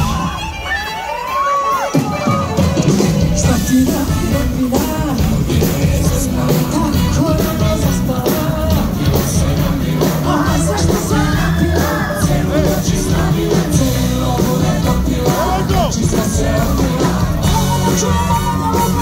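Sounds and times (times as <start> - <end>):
beat-driven pop-folk accompaniment: 0.0 - 19.0.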